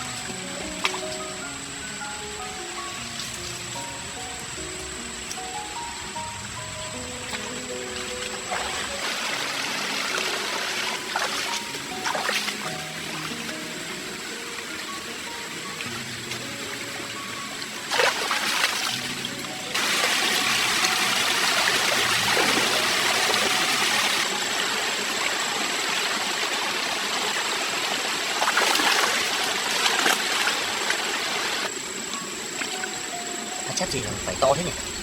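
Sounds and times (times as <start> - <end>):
stream water rushing and splashing: 0.0 - 35.0.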